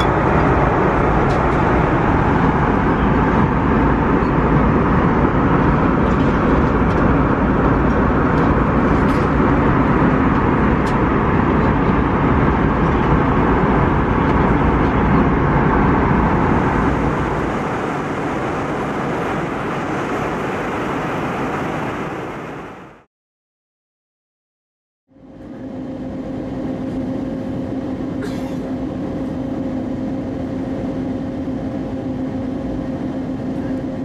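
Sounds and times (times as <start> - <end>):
airflow rushing in aircraft cabin: 0.0 - 23.1, 25.1 - 34.0
deep engine rumble: 0.0 - 23.1, 25.1 - 34.0.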